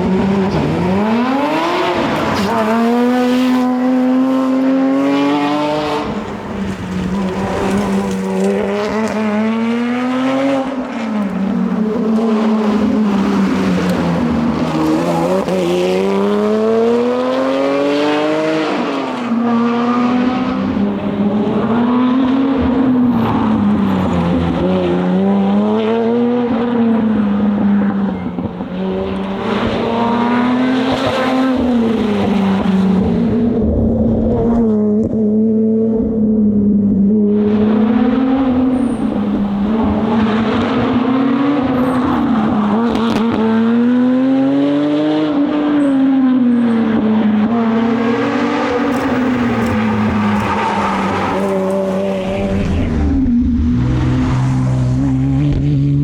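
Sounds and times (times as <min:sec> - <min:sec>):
car engine revving: 0:00.0 - 0:36.6, 0:37.2 - 0:56.0.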